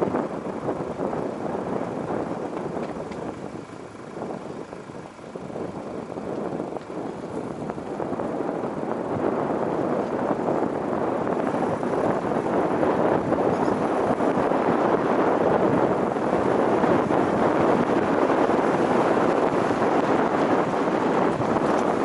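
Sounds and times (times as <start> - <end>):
tyre and wind road noise: 0.0 - 22.0.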